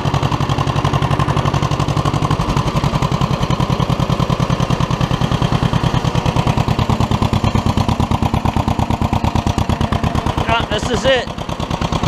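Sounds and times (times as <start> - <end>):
tractor engine running steadily: 0.0 - 12.0.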